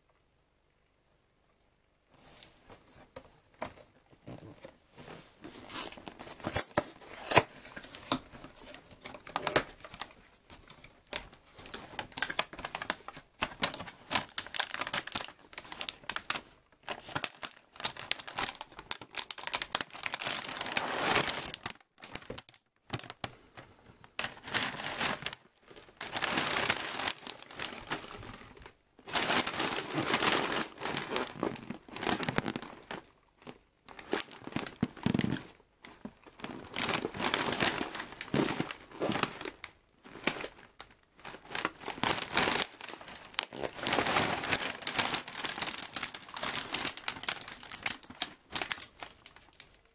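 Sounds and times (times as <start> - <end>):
plastic bag crinkling: 5.4 - 23.4, 24.1 - 49.9.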